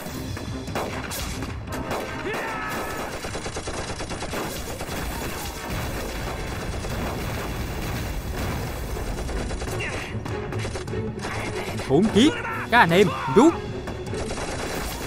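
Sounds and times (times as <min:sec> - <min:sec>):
rapid overlapping gunfire: 0:00.7 - 0:12.4, 0:14.0 - 0:15.0.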